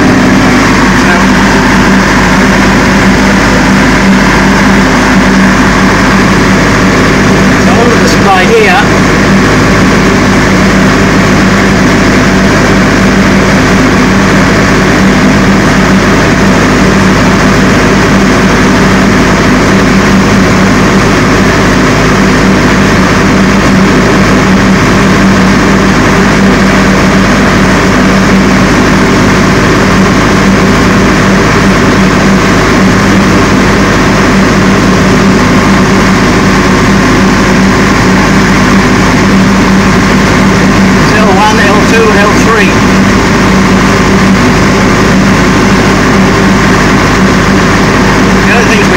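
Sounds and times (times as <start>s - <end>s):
diesel generator running: 0.0s - 48.9s.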